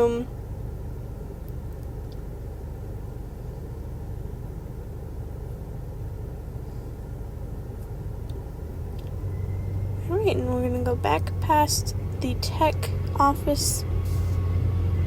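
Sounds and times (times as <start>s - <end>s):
steady low rumble with hum: 0.0s - 15.0s.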